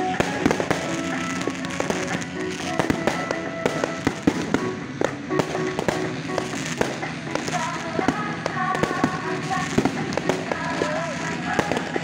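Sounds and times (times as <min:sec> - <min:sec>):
fireworks bangs and pops: 0:00.0 - 0:12.0
music playing: 0:00.0 - 0:12.0.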